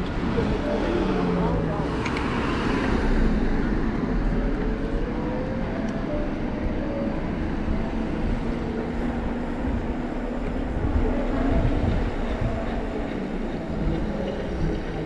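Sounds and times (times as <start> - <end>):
wind and tyre noise: 0.0 - 15.0.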